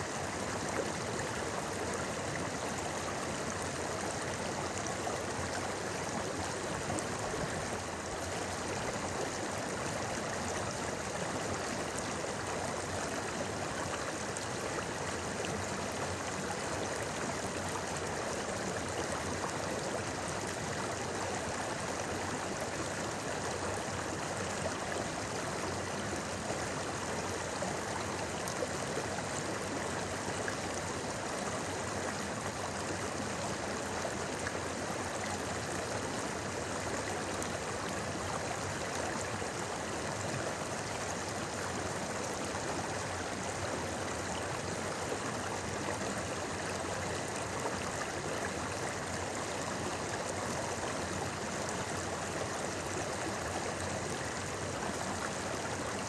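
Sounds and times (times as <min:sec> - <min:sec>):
river babbling over rocks: 0:00.0 - 0:56.0.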